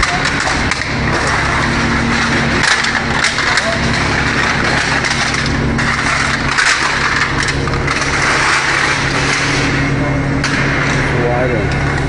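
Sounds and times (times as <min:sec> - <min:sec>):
cans rattling and crunching: 0:00.0 - 0:09.8
pump motor hum: 0:00.0 - 0:12.0.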